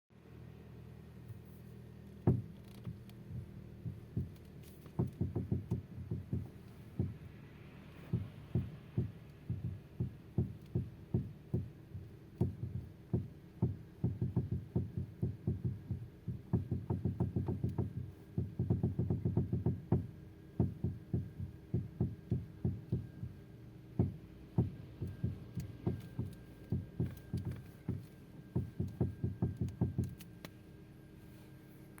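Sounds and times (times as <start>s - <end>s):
steady low hum: 0.2s - 32.0s
car steering knocking: 2.2s - 7.4s, 8.0s - 30.2s.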